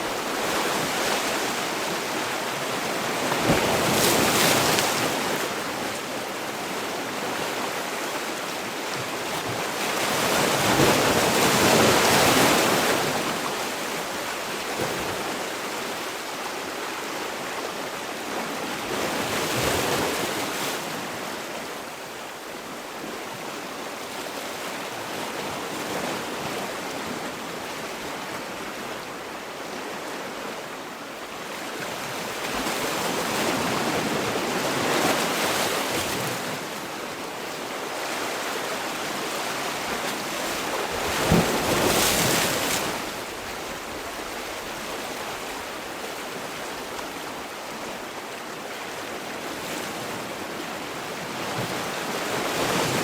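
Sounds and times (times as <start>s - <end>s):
sea waves washing ashore: 0.0s - 53.0s.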